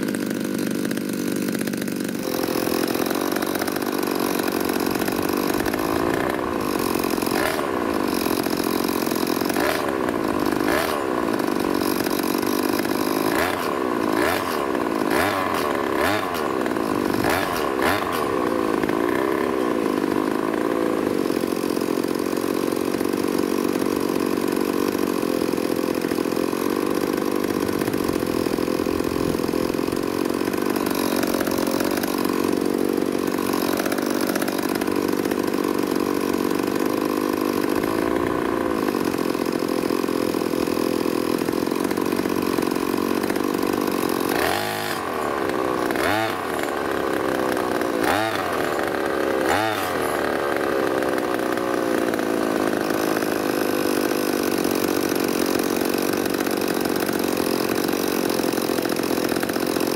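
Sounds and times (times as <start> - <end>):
two-stroke brush cutter engine revving: 0.0 - 59.9.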